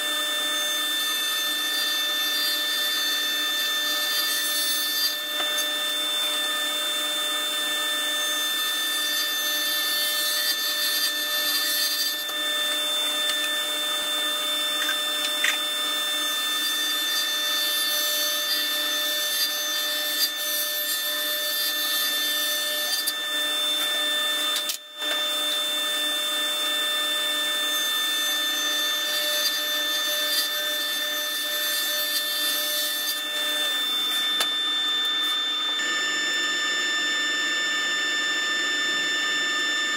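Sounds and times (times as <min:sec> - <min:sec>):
table saw whining: 0:00.0 - 0:39.9.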